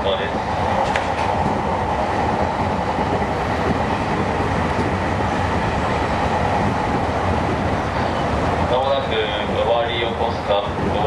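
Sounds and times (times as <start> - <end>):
steady train hum: 0.0 - 11.0
train wheels rumbling on rail: 0.0 - 11.0.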